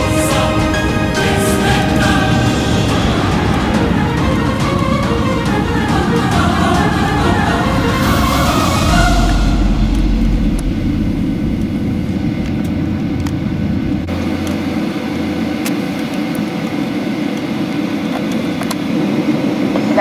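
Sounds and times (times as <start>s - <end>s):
cabin music: 0.0s - 18.4s
aircraft cabin engine hum: 0.0s - 20.0s.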